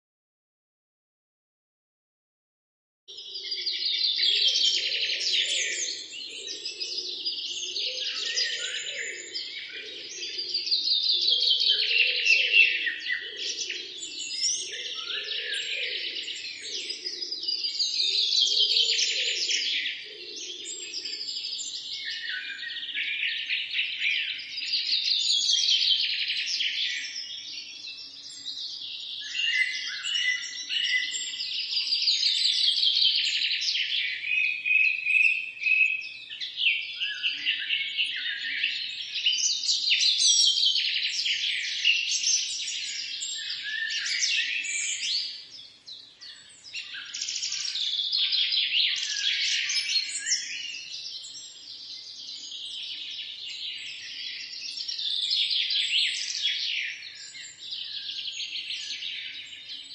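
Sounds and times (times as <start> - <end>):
trilling birdsong: 3.1 - 59.9.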